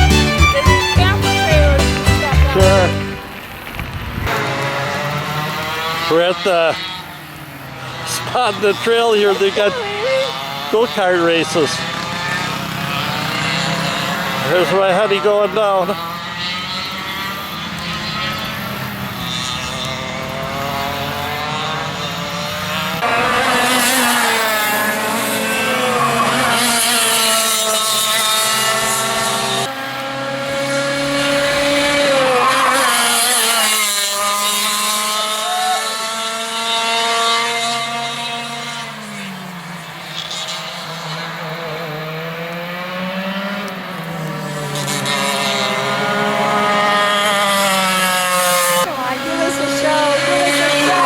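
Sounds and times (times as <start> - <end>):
go-kart engines at high revs: 0.0 - 51.0.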